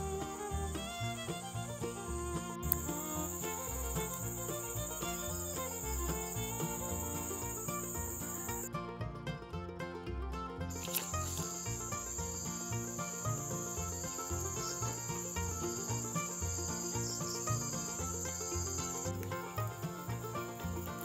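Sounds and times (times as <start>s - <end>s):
insects droning: 0.0s - 8.7s, 10.7s - 21.0s.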